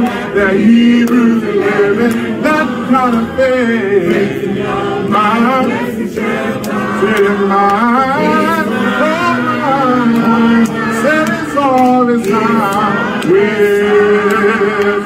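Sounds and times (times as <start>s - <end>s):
group singing a cappella gospel: 0.0s - 15.0s.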